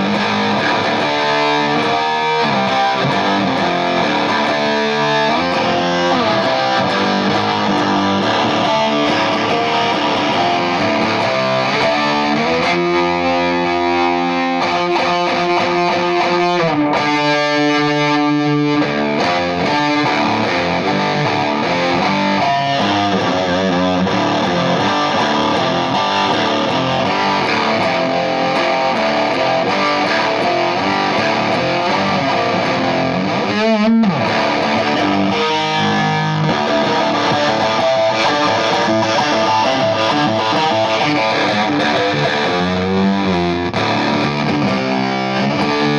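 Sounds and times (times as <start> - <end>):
fuzz electric guitar riff: 0.0 - 45.9.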